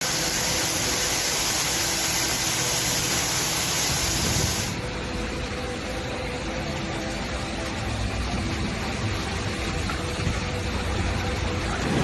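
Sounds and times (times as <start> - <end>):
flash flood water rushing: 0.0 - 12.0.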